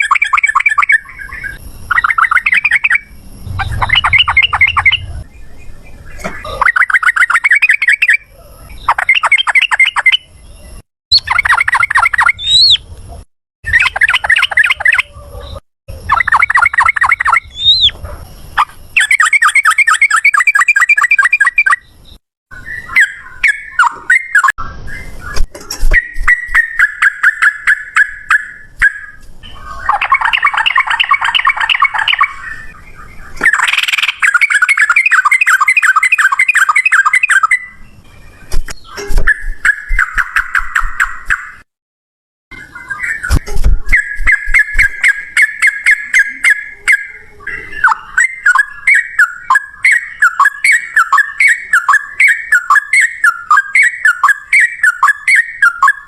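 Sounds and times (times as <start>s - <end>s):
bird singing trilled phrases: 0.0s - 12.9s, 13.7s - 41.6s, 42.5s - 56.0s.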